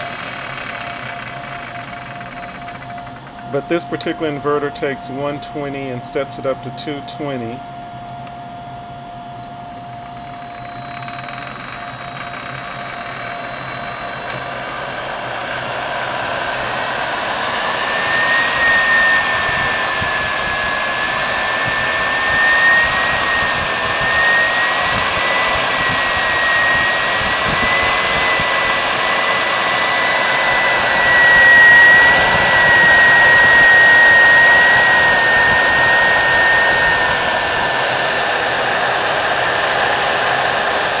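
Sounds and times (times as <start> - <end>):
electric motor whirring and whining: 0.0 - 41.0.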